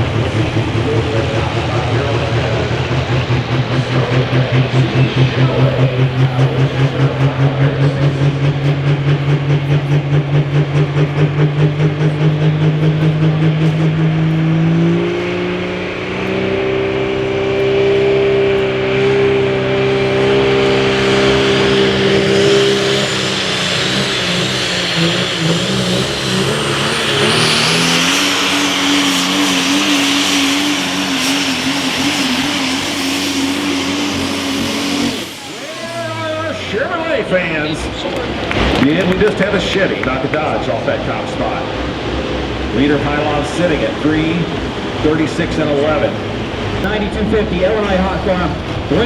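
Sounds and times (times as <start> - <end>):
diesel truck engine under load: 0.0 - 49.0
high turbo whine: 0.0 - 49.0.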